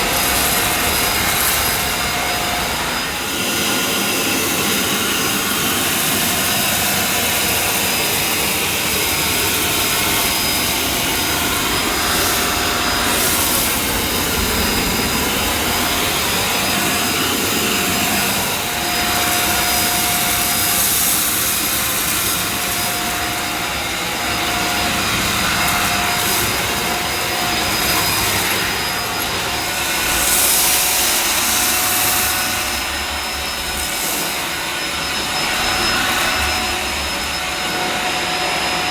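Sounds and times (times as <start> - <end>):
handheld vacuum cleaner running: 0.0 - 38.9.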